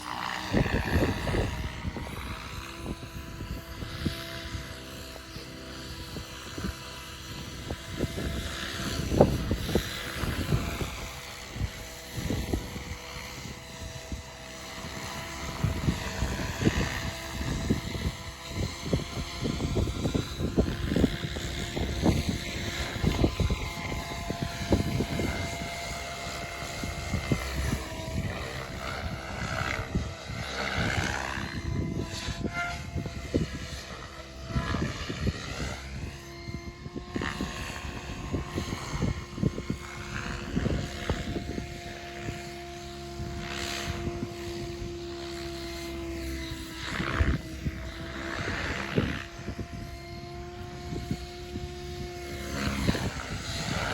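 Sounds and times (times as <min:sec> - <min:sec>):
model aircraft motor: 0:00.0 - 0:53.9
wind buffeting microphone: 0:00.0 - 0:53.9.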